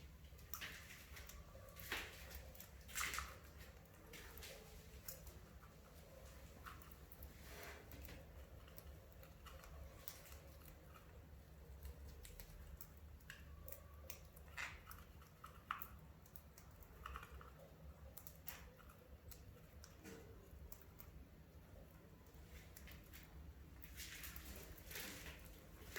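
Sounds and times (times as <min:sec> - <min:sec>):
low steady hum: 0:00.0 - 0:25.9
small birds clicking and scratching: 0:00.0 - 0:25.9.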